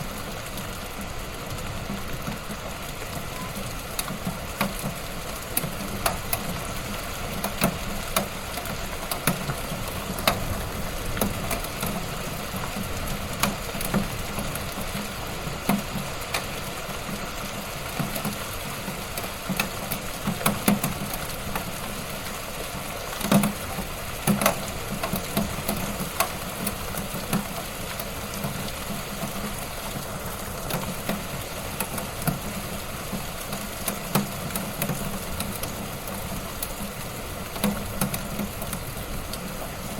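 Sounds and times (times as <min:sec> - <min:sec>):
wood fire rumble and hiss: 0:00.0 - 0:39.9.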